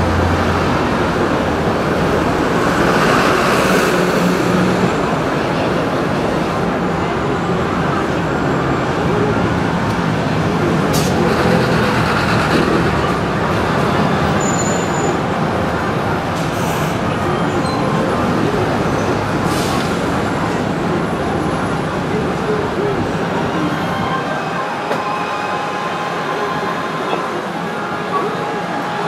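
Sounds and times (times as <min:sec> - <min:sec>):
cars and trucks driving past: 0:00.0 - 0:23.6.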